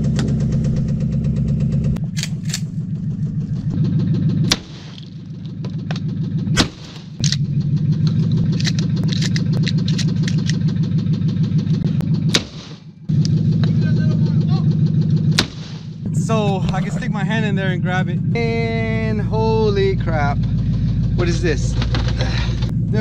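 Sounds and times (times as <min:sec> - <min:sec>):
vehicle engine straining: 0:00.0 - 0:23.0.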